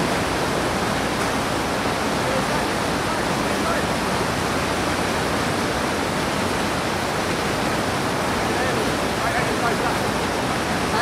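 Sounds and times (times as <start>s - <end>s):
whitewater rushing over boulders: 0.0s - 11.0s.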